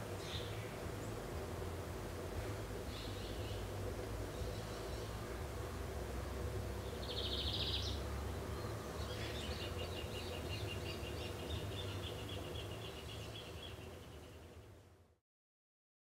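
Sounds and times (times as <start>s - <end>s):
low background rumble: 0.0s - 15.1s.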